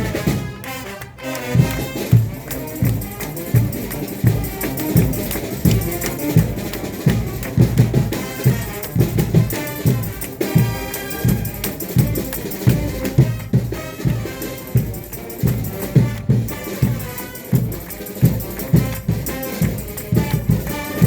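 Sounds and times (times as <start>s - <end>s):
driving drum beat: 0.0s - 21.0s
tambourine: 1.7s - 21.0s.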